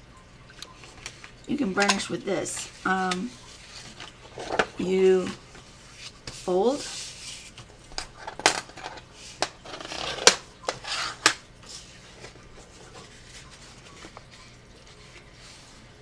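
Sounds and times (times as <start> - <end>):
faint paper handling: 0.7 - 16.0.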